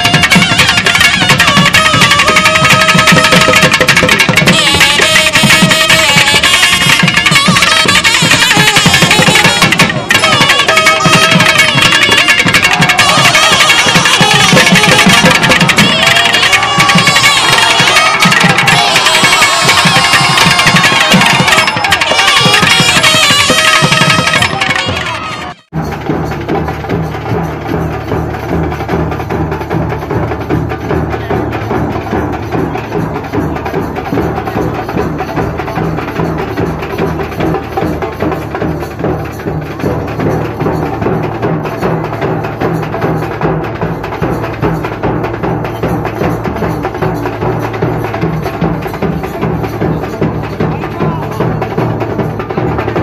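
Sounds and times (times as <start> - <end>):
large drum beaten with sticks: 0.0 - 53.0
percussion playing: 0.0 - 53.0.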